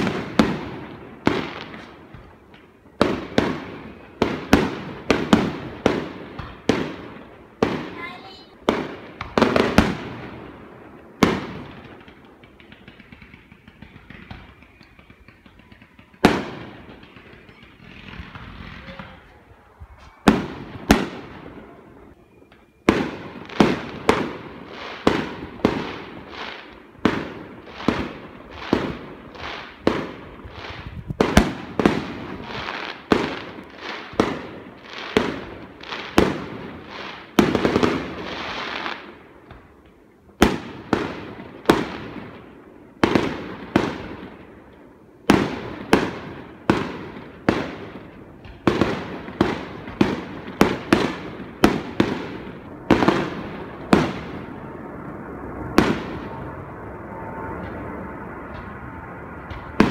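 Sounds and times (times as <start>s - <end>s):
firework crackle: 0.0s - 56.7s, 58.5s - 59.9s.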